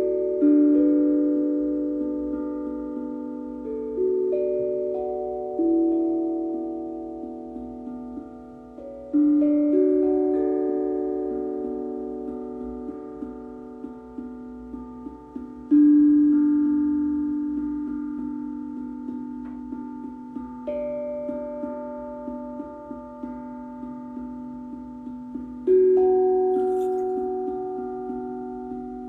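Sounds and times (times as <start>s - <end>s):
steel tongue drum notes: 0.0s - 29.0s.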